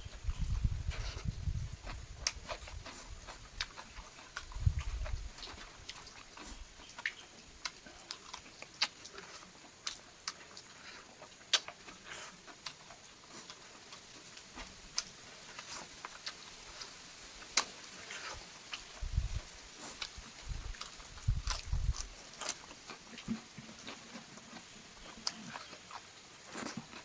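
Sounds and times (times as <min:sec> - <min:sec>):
chewing with wet mouth smacks: 0:00.0 - 0:27.0.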